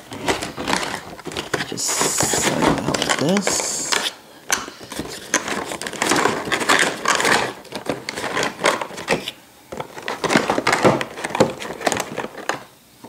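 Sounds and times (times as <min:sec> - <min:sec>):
cardboard and plastic rustling: 0:00.0 - 0:12.8.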